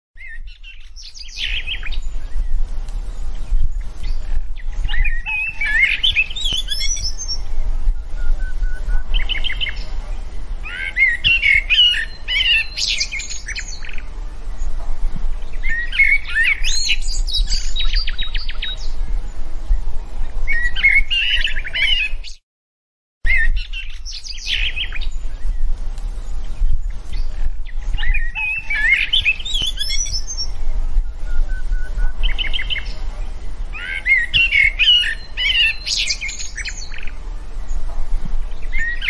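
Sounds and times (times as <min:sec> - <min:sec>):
birds chirping and warbling: 0:00.2 - 0:22.4, 0:23.3 - 0:39.0.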